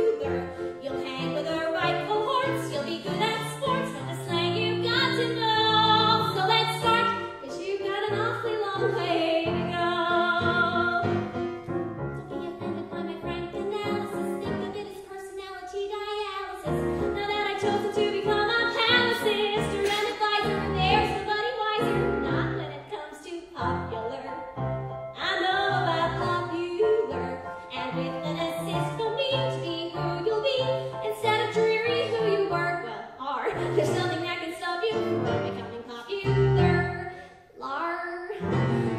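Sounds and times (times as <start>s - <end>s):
woman singing: 0.0s - 11.2s, 12.2s - 24.5s, 25.2s - 38.9s.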